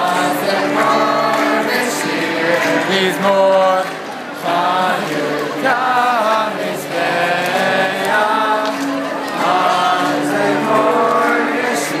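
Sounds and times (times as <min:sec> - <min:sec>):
crowd singing in unison: 0:00.0 - 0:12.0.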